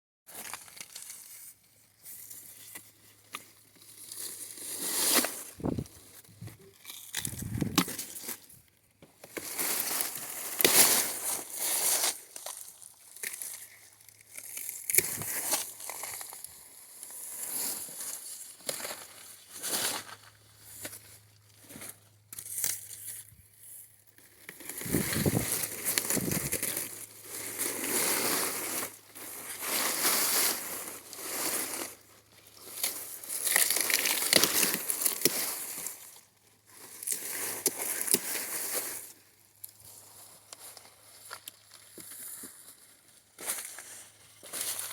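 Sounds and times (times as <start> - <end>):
dry vines and leaves rustling: 0.3 - 44.9.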